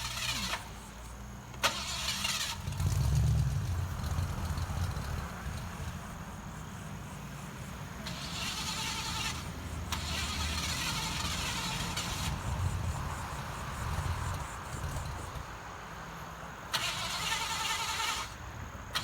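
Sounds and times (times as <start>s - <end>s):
hiss: 0.0s - 15.6s, 16.8s - 19.0s
car engine cranking: 0.0s - 19.0s.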